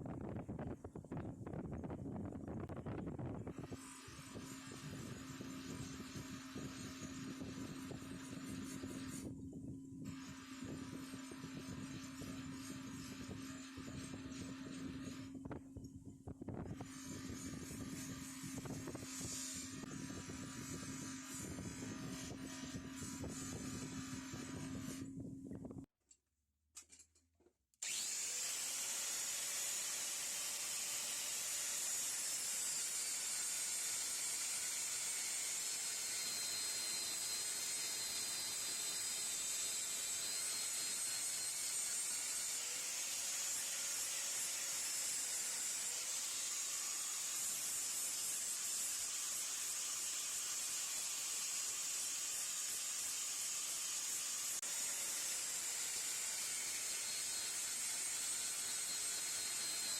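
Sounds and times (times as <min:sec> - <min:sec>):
power tool grinding metal: 0:03.5 - 0:09.3, 0:10.1 - 0:15.4, 0:16.6 - 0:25.2, 0:27.8 - 0:59.9.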